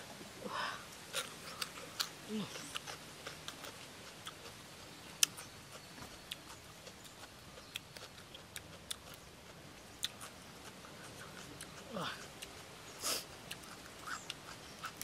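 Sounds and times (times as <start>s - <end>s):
chewing raw shrimp: 1.1s - 15.0s.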